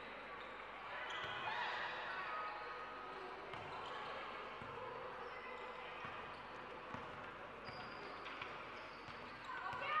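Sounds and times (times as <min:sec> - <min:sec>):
indoor gym background noise: 0:00.0 - 0:10.0.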